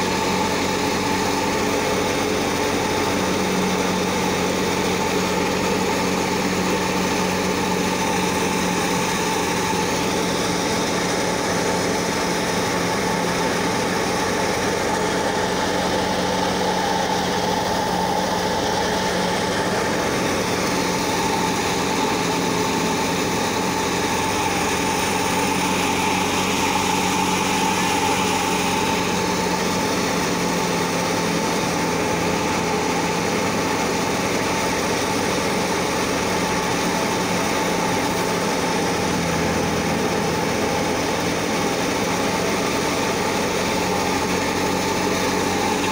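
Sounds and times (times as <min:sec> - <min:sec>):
thresher machine droning: 0:00.0 - 0:45.9.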